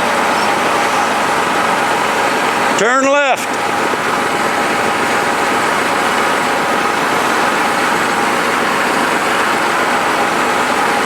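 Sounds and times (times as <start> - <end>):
road noise rush: 0.0 - 11.0
vehicle engine running: 0.0 - 11.0.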